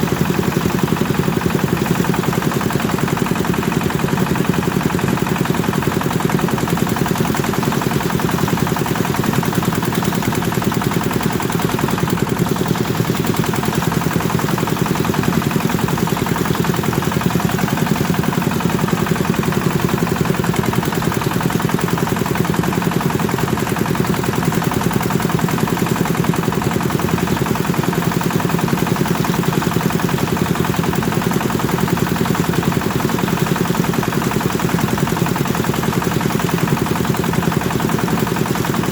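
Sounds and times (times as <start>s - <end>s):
engine chugging: 0.0s - 38.9s.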